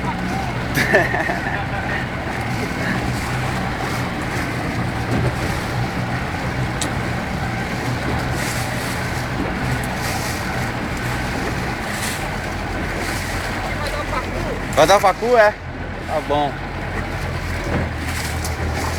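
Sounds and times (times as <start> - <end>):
motorboat engine humming: 0.0 - 18.9.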